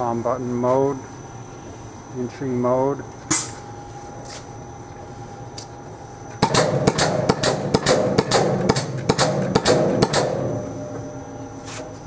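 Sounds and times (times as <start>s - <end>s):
faint machine hum: 0.0s - 12.0s.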